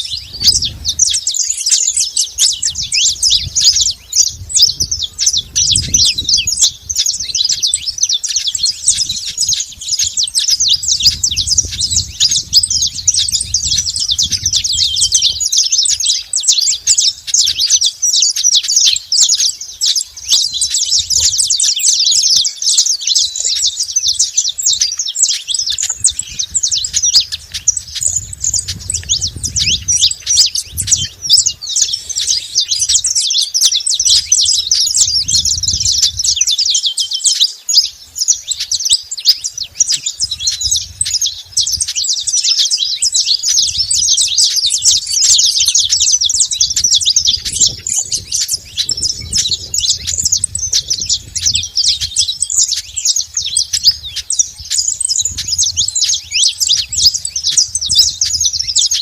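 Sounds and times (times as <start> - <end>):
finches chirping and singing: 0.0 - 59.0.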